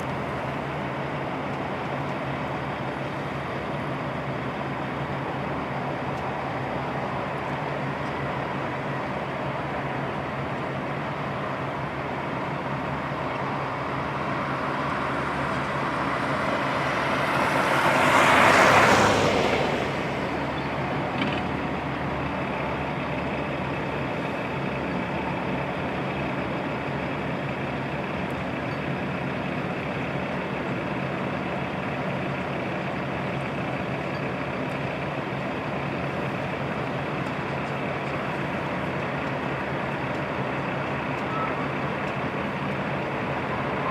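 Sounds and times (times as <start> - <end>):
diesel truck engines running: 0.0 - 43.9.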